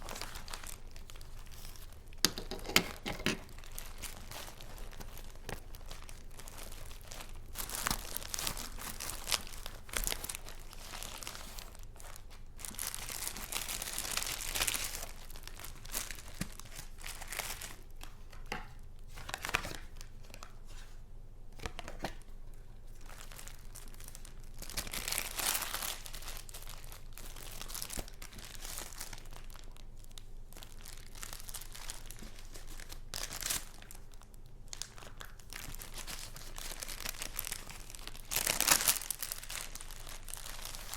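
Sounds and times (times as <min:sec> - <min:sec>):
paper crinkling and rustling: 0:00.0 - 0:21.0, 0:21.6 - 0:40.9.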